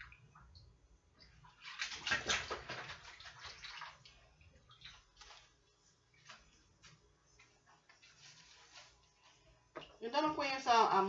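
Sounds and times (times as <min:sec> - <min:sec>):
water splashing in a sink: 0:00.0 - 0:09.0.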